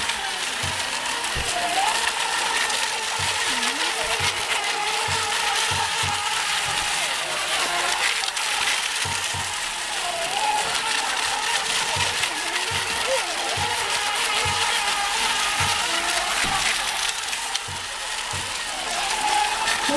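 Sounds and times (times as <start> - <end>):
electric boat motors whining: 0.0 - 19.9
low thumps: 0.0 - 19.9.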